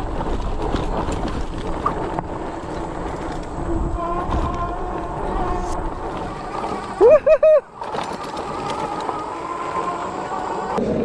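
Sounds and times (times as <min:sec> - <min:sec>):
bike tires rolling on dirt: 0:00.0 - 0:11.0
wind buffeting microphone: 0:00.0 - 0:11.0.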